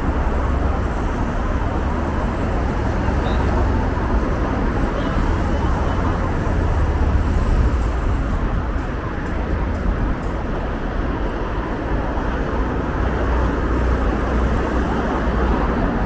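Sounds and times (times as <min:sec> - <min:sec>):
city road traffic rumble: 0:00.0 - 0:16.0.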